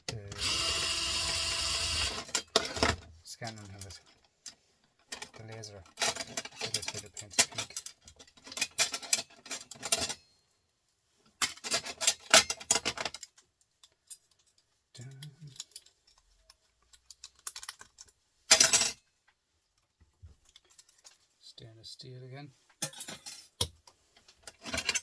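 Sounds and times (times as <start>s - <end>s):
small hard parts clicking and rattling: 0.0s - 10.4s, 11.3s - 21.3s, 22.7s - 25.0s.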